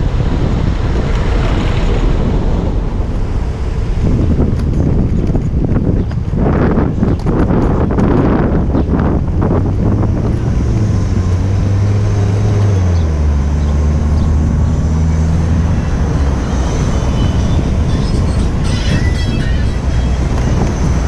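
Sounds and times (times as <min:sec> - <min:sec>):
motor vehicle engine humming: 0:00.0 - 0:21.0
street traffic: 0:00.0 - 0:21.0
wind rushing on microphone: 0:00.0 - 0:21.0.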